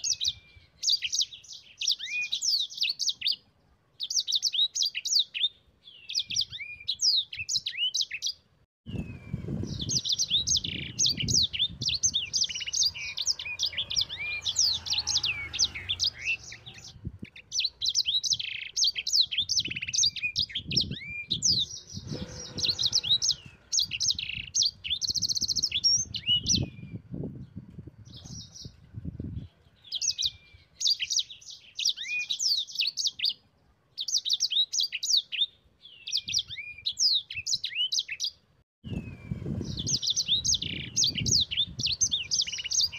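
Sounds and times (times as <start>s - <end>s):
bird singing high chirps: 0.0s - 42.9s.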